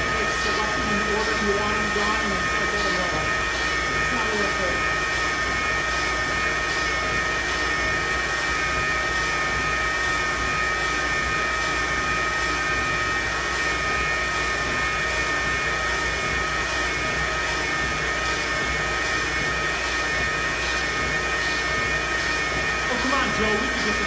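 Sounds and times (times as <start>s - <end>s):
cnc router spindle whine: 0.0s - 24.0s
machine hum: 0.0s - 24.0s.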